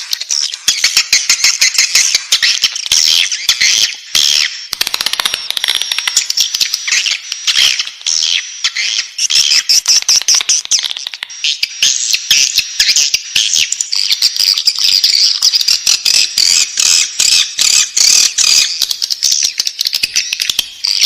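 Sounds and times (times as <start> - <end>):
bird chicks chirping: 0.0 - 21.0.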